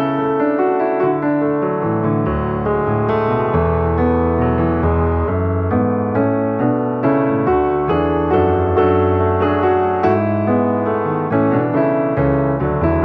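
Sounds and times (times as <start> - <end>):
soft piano melody: 0.0 - 13.0.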